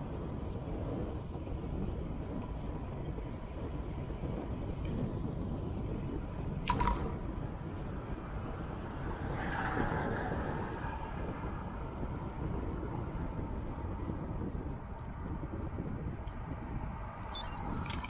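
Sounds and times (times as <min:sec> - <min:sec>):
road noise: 0:00.0 - 0:18.0
wind rumbling on microphone: 0:00.0 - 0:18.0.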